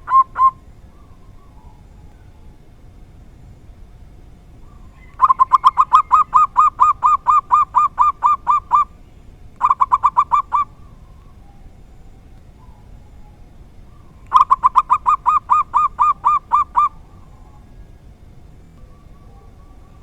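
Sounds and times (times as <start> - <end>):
dove cooing in rapid notes: 0.0 - 20.0.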